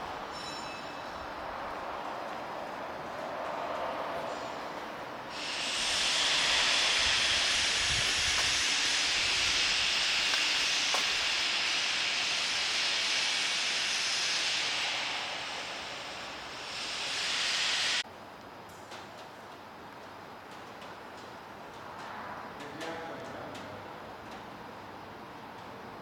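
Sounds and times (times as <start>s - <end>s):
loud steady hiss: 0.0s - 26.0s.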